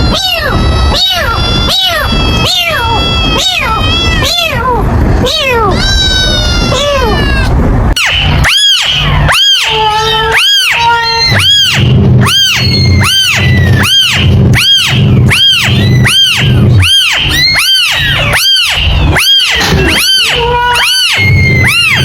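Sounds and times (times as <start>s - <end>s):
faint background meows: 0.0s - 22.0s
kitten meowing: 0.0s - 22.0s
low hum: 0.0s - 22.0s.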